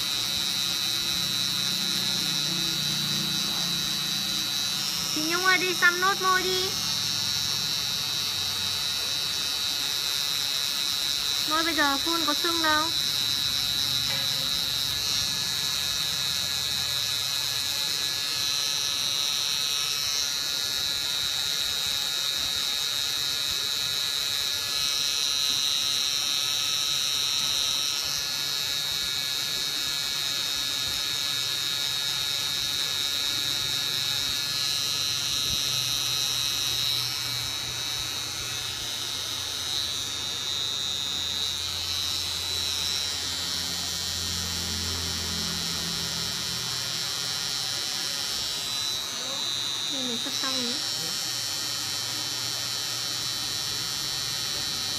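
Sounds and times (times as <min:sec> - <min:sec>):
tattoo machine buzzing: 0:00.0 - 0:54.9.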